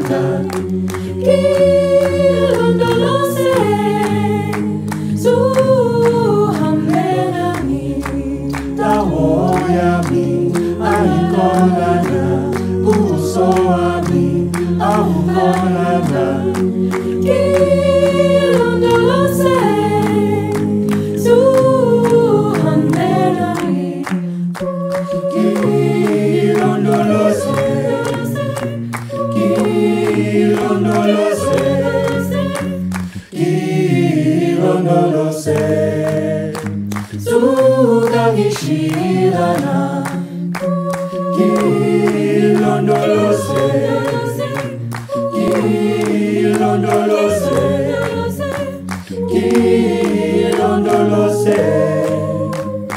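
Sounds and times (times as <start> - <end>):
a cappella ensemble singing: 0.0 - 52.9.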